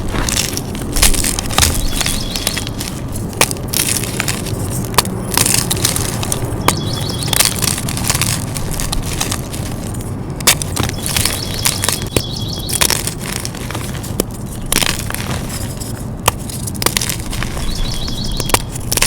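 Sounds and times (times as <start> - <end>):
chalk crunching and crumbling: 0.0 - 19.0
sharp cracks of chalk: 0.0 - 19.0.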